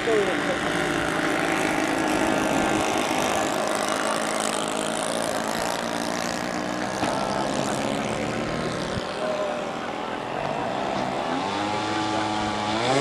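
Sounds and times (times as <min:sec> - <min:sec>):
model plane twin engines running: 0:00.0 - 0:13.0.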